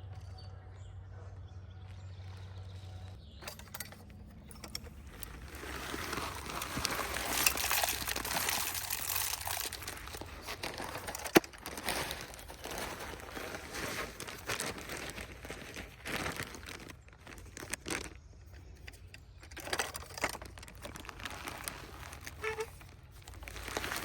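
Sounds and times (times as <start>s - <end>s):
packaging rustling and crinkling: 4.4s - 24.0s.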